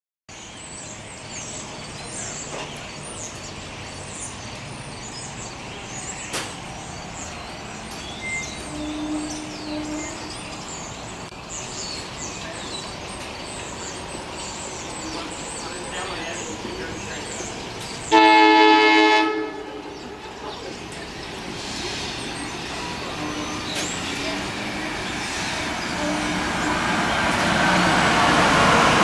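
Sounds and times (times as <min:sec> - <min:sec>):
birds chirping: 0:00.3 - 0:29.0.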